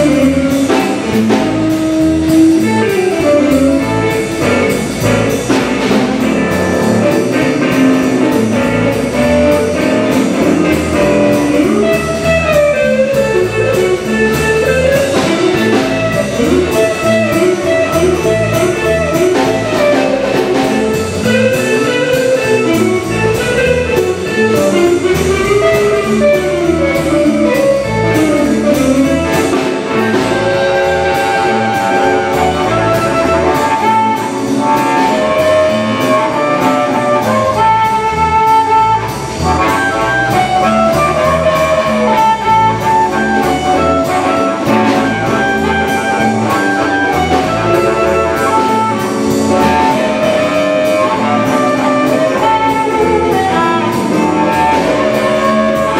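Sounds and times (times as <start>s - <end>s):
amplified harmonica wailing: 0.0s - 55.9s
drum kit steady beat: 0.0s - 55.9s
electric bass: 0.0s - 55.9s
electric guitar: 0.0s - 55.9s.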